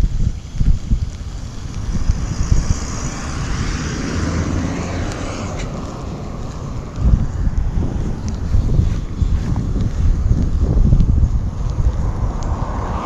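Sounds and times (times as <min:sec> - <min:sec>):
wind buffeting microphone: 0:00.0 - 0:13.0
vehicle passing by: 0:01.4 - 0:13.0.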